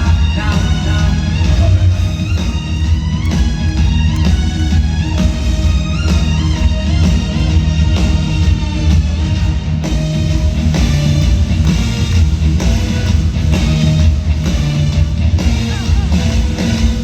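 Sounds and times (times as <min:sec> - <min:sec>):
live rock band over loudspeakers: 0:00.0 - 0:17.0.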